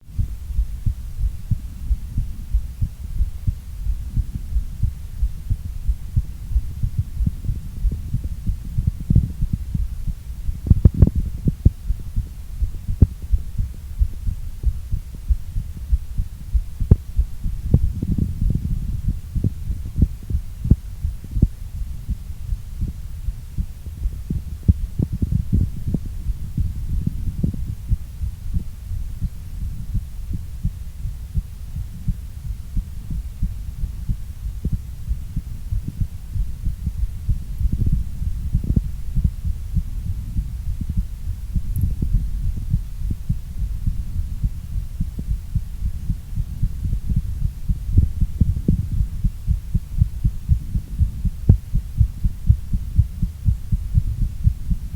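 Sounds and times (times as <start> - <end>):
fast heartbeat pulse: 0.0 - 54.9
steady low hum: 0.0 - 54.9.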